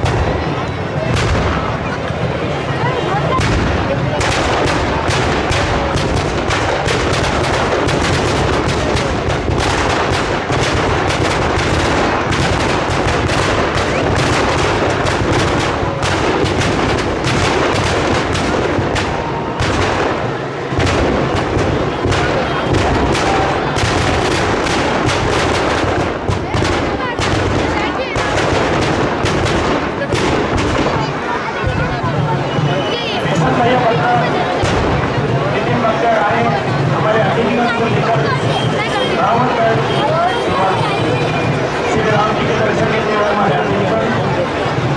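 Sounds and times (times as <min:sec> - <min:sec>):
firecrackers banging rapidly: 0:00.0 - 0:44.9.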